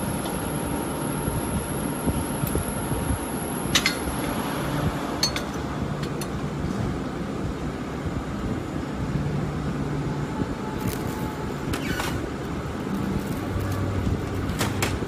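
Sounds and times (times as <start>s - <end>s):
steady background drone: 0.0s - 15.0s.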